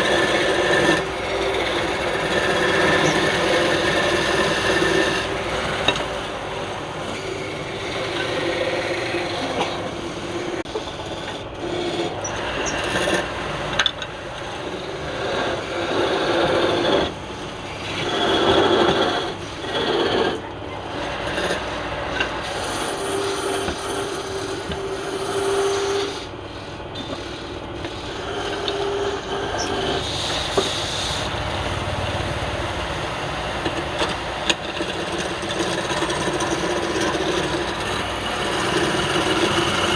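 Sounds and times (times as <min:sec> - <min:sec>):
tool scraping spinning wood: 0:00.0 - 0:39.9
wood lathe hum: 0:00.0 - 0:39.9.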